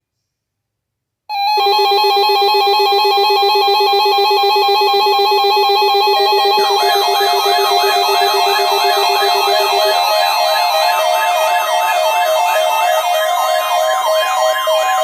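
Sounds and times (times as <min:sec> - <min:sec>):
pulsing electronic tone: 0:01.3 - 0:15.0.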